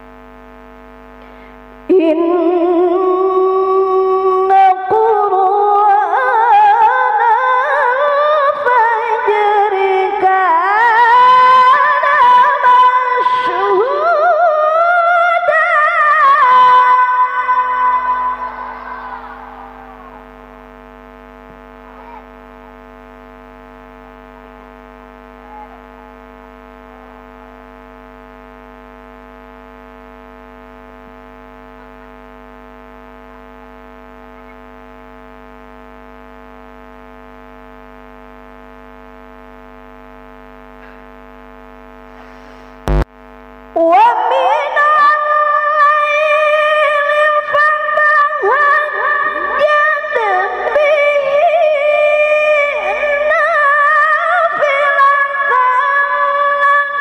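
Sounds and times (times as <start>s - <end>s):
electrical hum and buzz: 0.0s - 57.0s.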